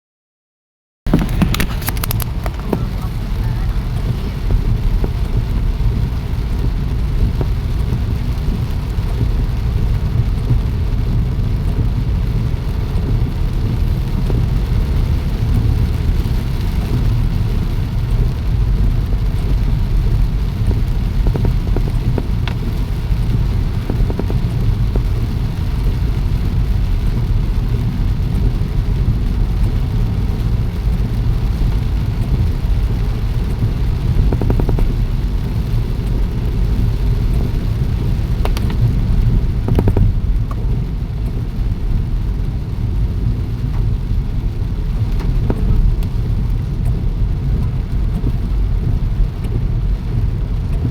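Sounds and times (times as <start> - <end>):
rain falling: 1.1 - 50.9.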